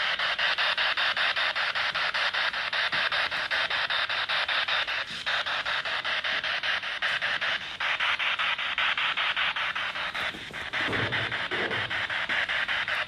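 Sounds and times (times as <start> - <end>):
radio static sweeping: 0.0 - 13.0.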